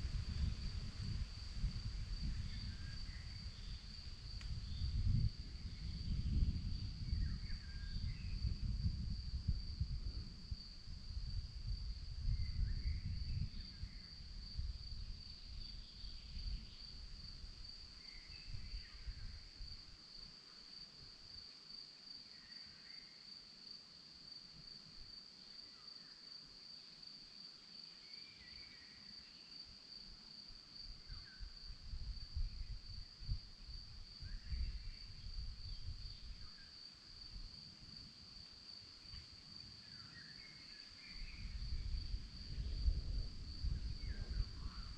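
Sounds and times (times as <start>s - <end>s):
crickets trilling: 0.0s - 44.9s.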